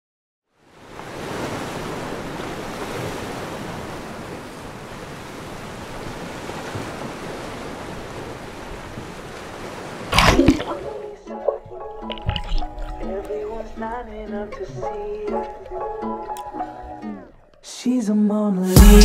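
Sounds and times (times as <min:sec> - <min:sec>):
sea waves washing: 0:00.6 - 0:17.3.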